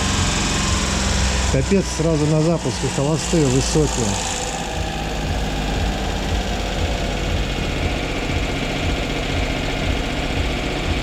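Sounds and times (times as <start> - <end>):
car engine idling high: 0.0 - 11.0.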